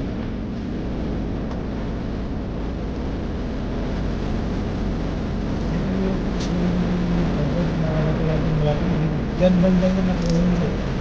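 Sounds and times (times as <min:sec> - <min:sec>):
car driving road noise: 0:00.0 - 0:11.0.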